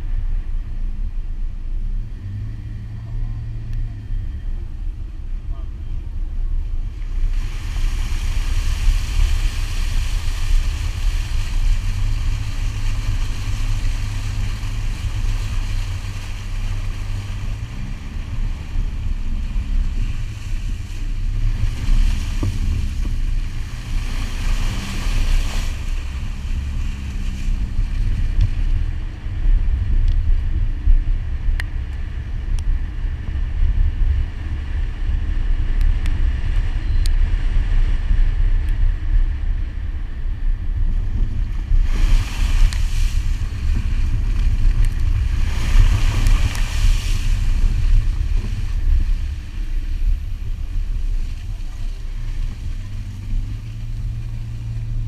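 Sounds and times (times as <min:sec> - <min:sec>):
car engine rumbling under load: 0:00.0 - 0:55.0
wind buffeting: 0:03.8 - 0:55.0.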